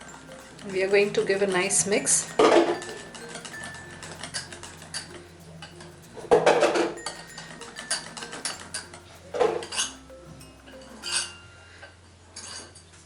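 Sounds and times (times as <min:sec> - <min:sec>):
utensil scraping and clinking bowl: 0:00.0 - 0:11.6.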